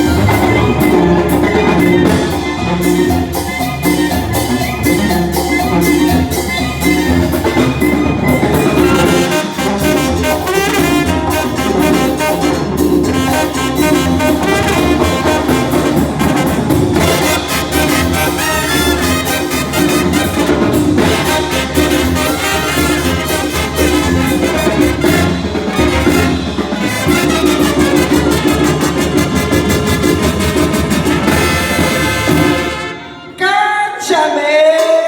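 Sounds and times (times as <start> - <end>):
brass band music: 0.0 - 33.7.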